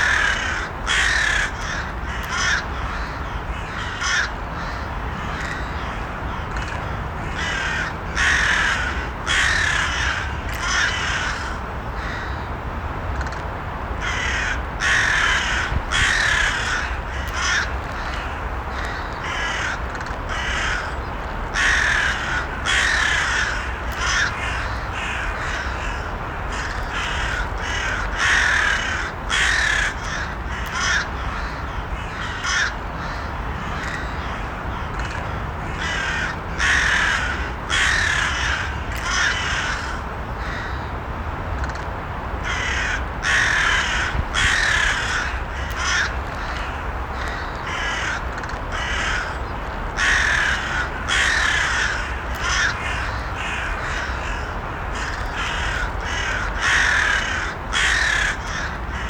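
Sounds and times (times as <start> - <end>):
crows cawing: 0.0 - 12.5, 14.0 - 40.9, 42.4 - 59.0.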